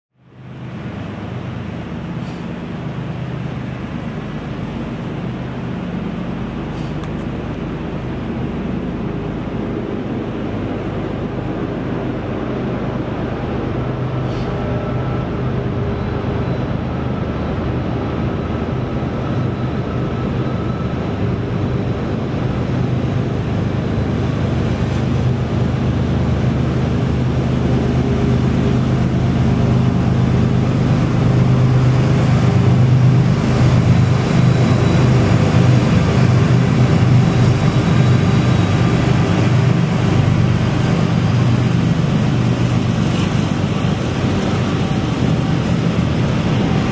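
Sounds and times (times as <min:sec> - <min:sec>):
diesel locomotive engines droning: 0:00.2 - 0:46.9.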